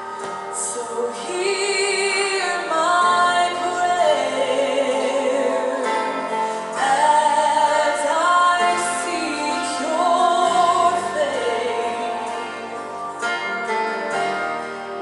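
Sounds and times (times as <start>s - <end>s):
woman singing: 0.0s - 12.9s
instrumental backing: 0.0s - 15.0s.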